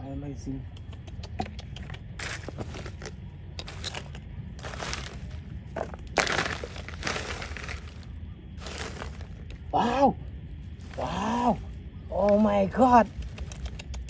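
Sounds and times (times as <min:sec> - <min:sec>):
steady low rumble: 0:00.0 - 0:14.0
crunching and scraping dry material: 0:01.7 - 0:14.0.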